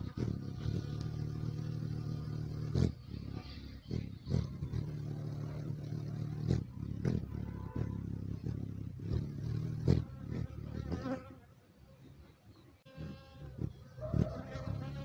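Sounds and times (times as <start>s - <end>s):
hummingbird wings humming: 0.0s - 15.0s.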